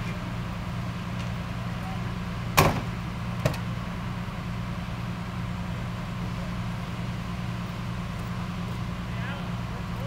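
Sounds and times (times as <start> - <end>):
fire truck engine droning: 0.0 - 10.0.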